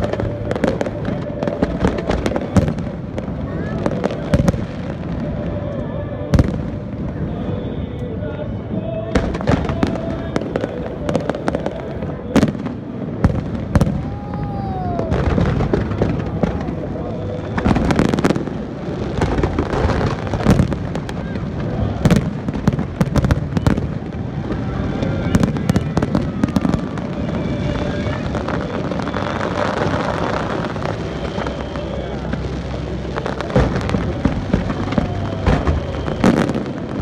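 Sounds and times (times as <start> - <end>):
fireworks bangs and crackles: 0.0 - 37.0
fireworks rumble: 0.0 - 37.0.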